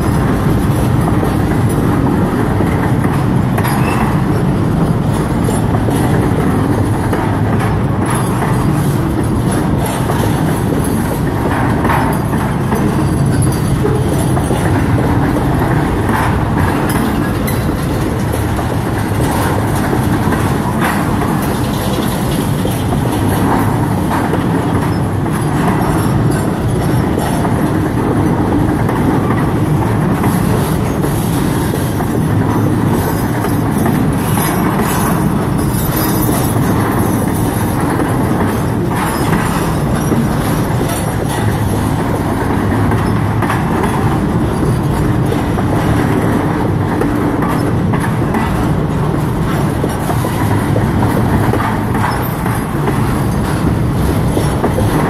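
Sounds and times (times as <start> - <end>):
freight train wheels rumbling: 0.0 - 55.0
wheels clicking over rail joints: 0.0 - 55.0.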